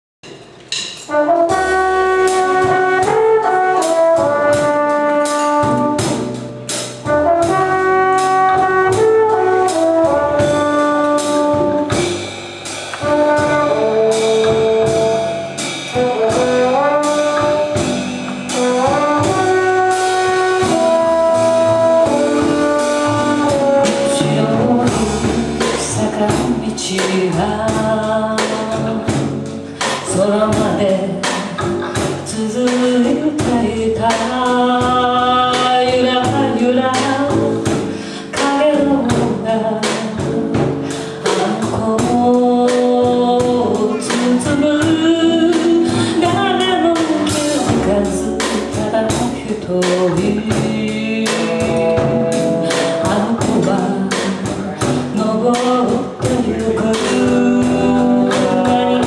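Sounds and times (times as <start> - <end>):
drums with cymbal beat: 0.2 - 59.0
trumpet and trombone melody: 1.0 - 29.2, 30.2 - 37.8, 41.2 - 59.0
upright bass: 1.5 - 59.0.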